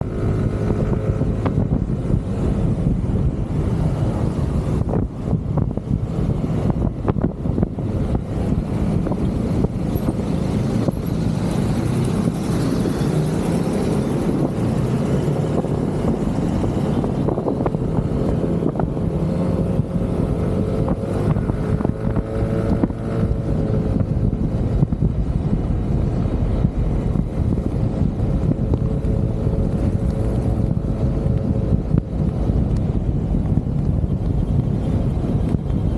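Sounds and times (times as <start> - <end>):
motorcycle engine: 0.0 - 35.9
wind rush on microphone: 0.0 - 35.9.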